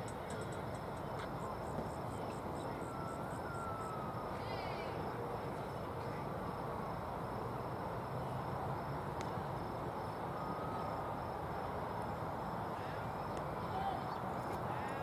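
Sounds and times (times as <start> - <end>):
crickets chirping: 0.0 - 15.0
outdoor background noise: 0.0 - 15.0.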